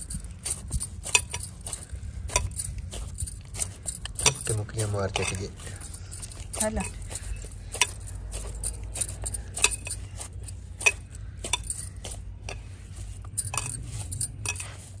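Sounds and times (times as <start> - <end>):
fists kneading dough: 0.0 - 15.0
glass bangles clinking: 0.0 - 15.0.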